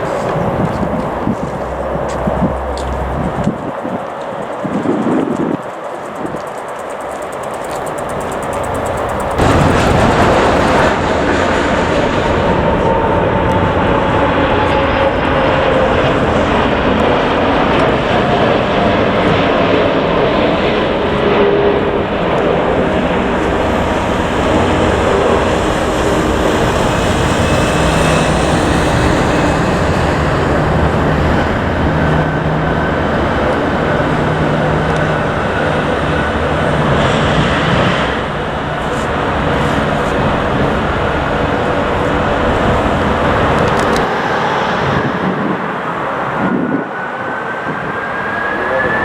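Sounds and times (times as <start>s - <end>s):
jet engines roaring: 0.0s - 49.0s
whining tones gliding down: 6.8s - 49.0s.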